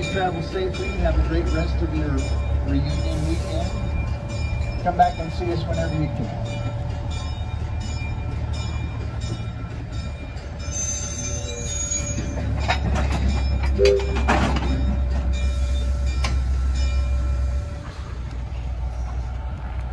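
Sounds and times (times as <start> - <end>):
diesel locomotive rumble: 0.0 - 19.9
train cars clanking and squealing: 0.0 - 19.9.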